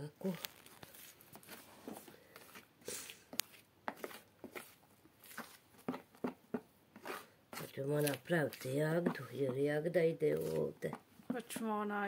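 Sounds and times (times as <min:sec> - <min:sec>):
spoon scraping batter in plastic bowl: 0:00.4 - 0:11.7.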